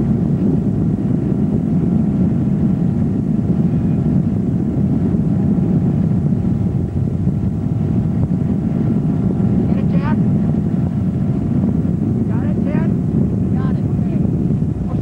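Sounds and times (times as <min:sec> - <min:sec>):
boat engine running at speed: 0:00.0 - 0:15.0
wind rushing: 0:00.0 - 0:15.0.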